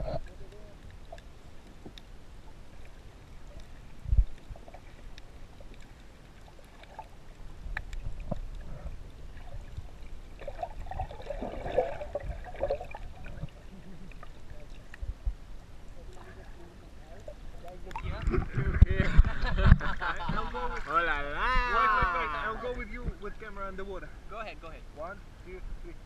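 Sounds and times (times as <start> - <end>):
underwater rumbling: 0.0 - 23.7.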